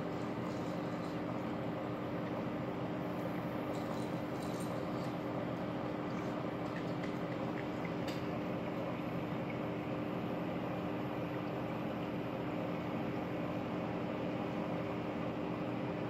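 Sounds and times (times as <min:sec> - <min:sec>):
aquarium pumps humming: 0:00.0 - 0:16.0.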